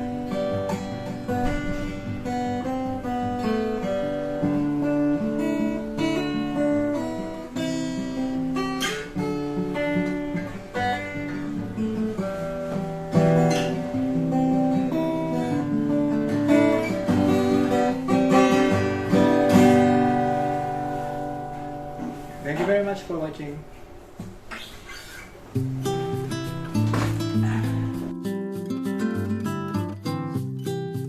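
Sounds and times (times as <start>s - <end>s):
acoustic guitar playing: 0.0s - 31.0s.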